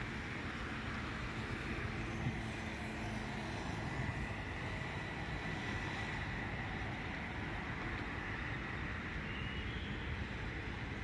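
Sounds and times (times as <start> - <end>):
distant airliner engine rumble: 0.0 - 11.0
passing road traffic: 0.0 - 11.0.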